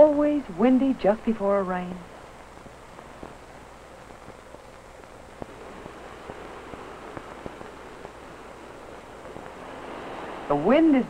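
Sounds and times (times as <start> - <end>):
crackles and pops: 0.0 - 10.3
film soundtrack hiss: 0.0 - 11.0
low hum: 0.0 - 11.0.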